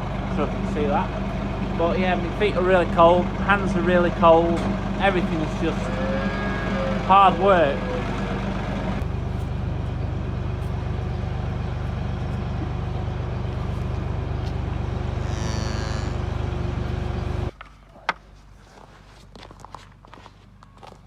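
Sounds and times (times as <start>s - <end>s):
diesel engine idling: 0.0s - 17.5s.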